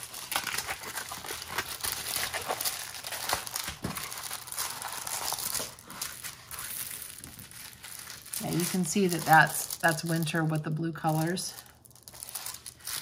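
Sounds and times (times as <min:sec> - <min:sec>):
plastic sheet crinkling: 0:00.0 - 0:13.0.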